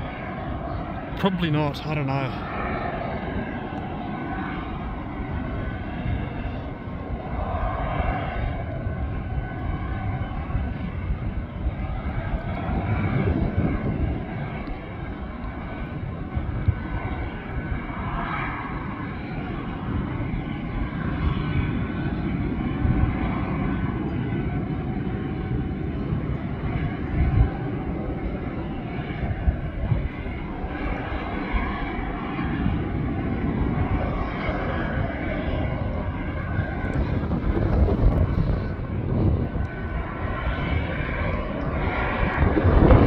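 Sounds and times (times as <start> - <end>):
aircraft engine rumble: 0.0 - 43.0.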